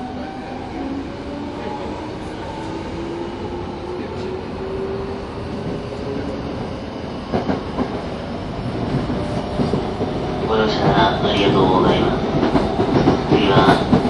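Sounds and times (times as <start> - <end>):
train running noise: 0.0 - 14.0.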